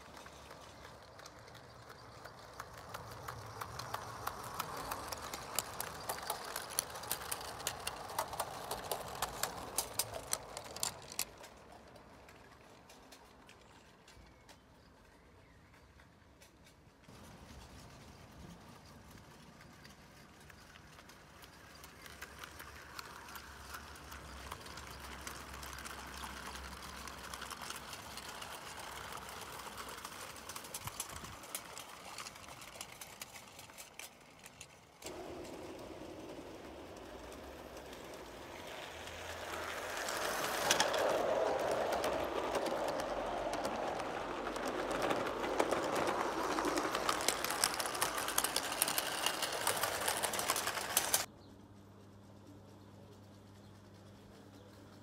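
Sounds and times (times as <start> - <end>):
model train wheels clattering on rails: 0.0 - 51.3.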